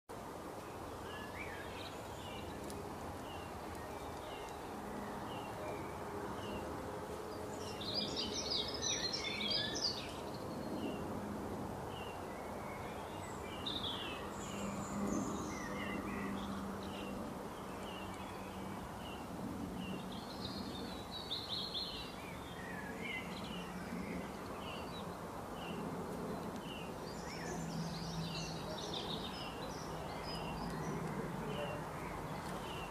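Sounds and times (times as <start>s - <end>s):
steady background noise: 0.1s - 32.9s
birds chirping: 0.6s - 11.2s, 11.8s - 32.9s.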